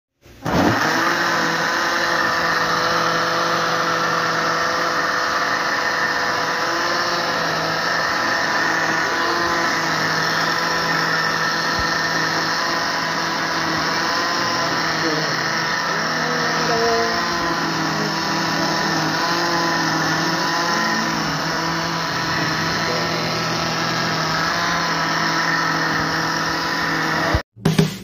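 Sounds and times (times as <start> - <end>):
blender running: 0.2 - 27.5.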